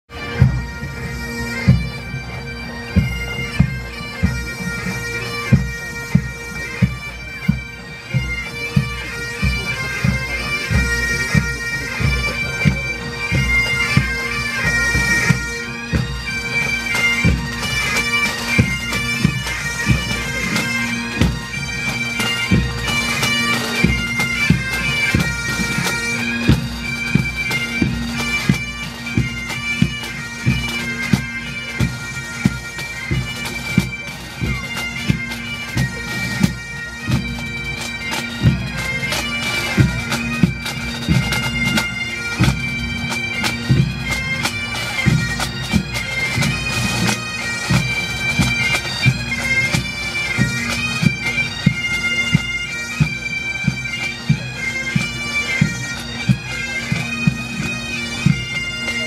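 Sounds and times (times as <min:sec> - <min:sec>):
bagpipes playing a march: 0:00.1 - 0:59.0
pipe band drums beating: 0:00.1 - 0:59.0.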